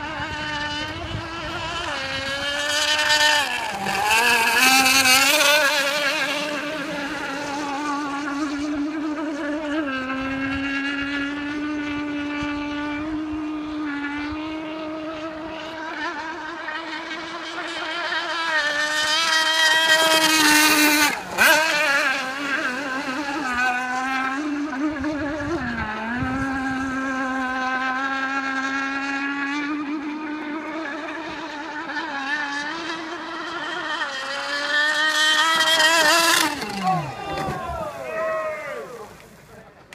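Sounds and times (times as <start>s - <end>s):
toy speedboat motor whining: 0.0s - 39.5s.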